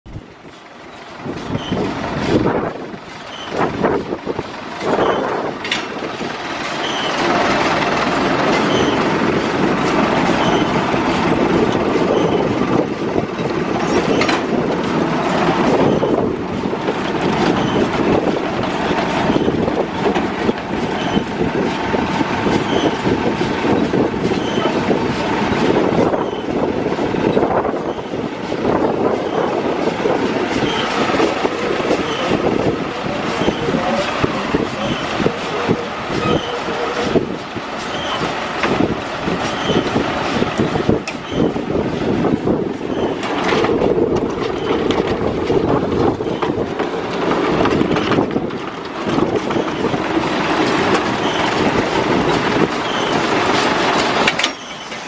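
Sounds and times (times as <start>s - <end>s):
baler chains and rollers rattling: 0.1s - 55.0s.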